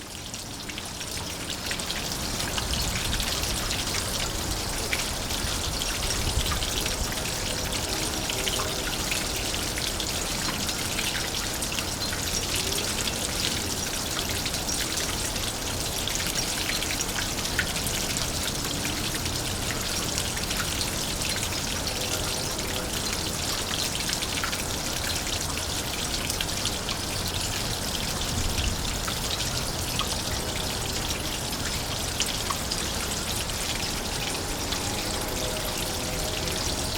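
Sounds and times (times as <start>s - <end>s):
water trickling down rain chain: 0.0s - 36.9s.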